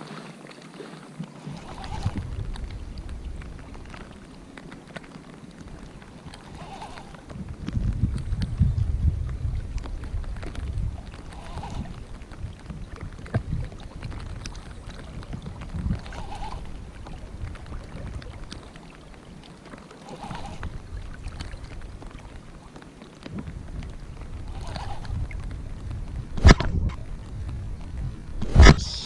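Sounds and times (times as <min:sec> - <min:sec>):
waves lapping against rocks: 0:00.0 - 0:29.0
wind buffeting microphone: 0:01.2 - 0:29.0.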